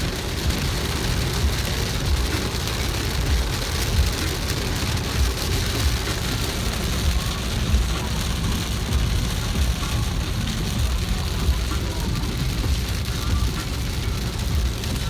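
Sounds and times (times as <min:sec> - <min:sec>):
low irregular rumble: 0:00.0 - 0:15.0
outdoor rushing noise: 0:00.0 - 0:15.0.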